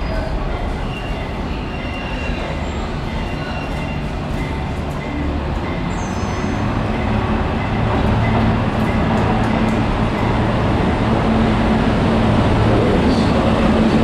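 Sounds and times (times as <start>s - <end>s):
electric locomotive rumble and hum: 0.0s - 14.0s.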